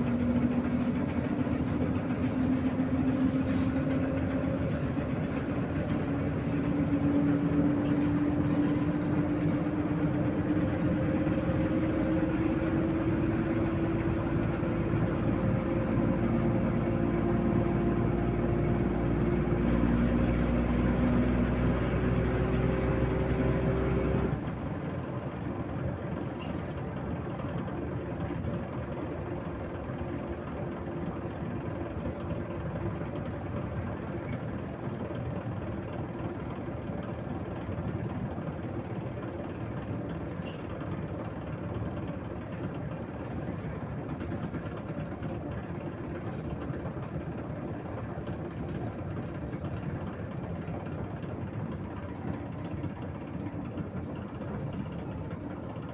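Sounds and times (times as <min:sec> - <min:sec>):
bus diesel engine: 0:00.0 - 0:55.9
road rumble: 0:00.0 - 0:55.9.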